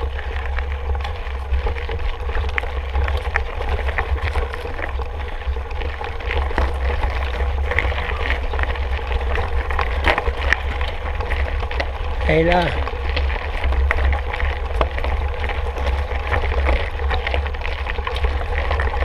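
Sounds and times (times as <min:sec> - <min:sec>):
bike riding on rough trail: 0:00.0 - 0:19.0.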